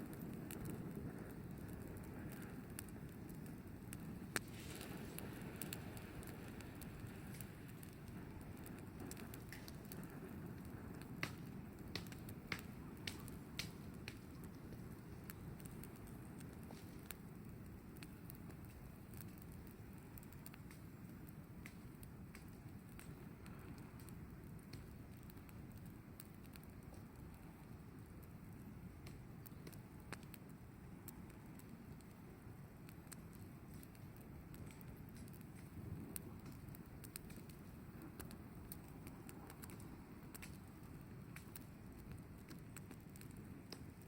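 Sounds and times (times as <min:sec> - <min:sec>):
campfire crackling and popping: 0:00.0 - 0:44.0
fire low rush: 0:00.0 - 0:44.0.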